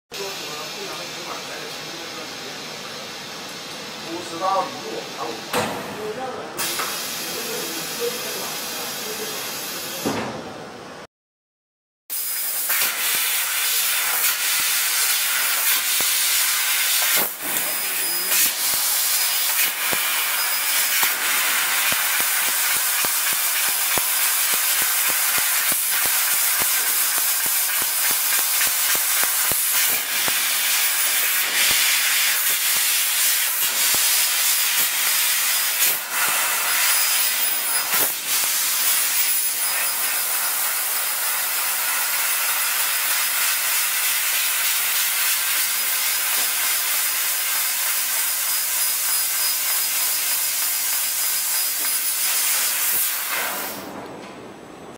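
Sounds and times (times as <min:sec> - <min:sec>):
laser cutter gas hiss: 0:00.2 - 0:05.7, 0:06.6 - 0:10.2, 0:12.1 - 0:53.9.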